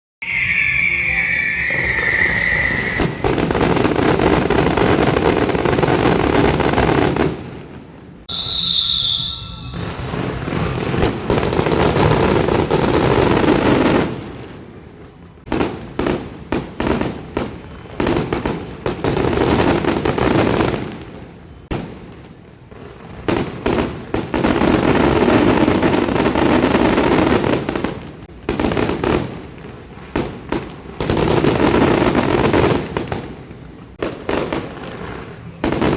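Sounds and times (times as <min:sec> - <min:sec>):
fireworks and firecrackers banging: 0:00.2 - 0:35.9.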